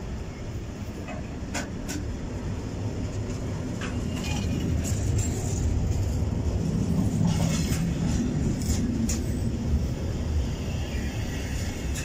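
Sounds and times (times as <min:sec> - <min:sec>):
freight wagons rolling on rails: 0:00.0 - 0:12.0.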